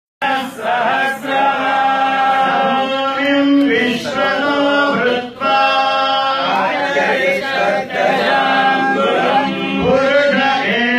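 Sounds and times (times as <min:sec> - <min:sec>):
men chanting a hymn: 0:00.2 - 0:10.9.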